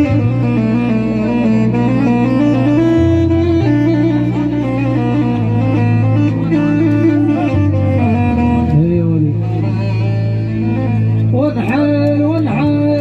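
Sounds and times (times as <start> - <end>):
electronic keyboard melody: 0.0 - 13.0
sustained bass notes: 0.0 - 13.0.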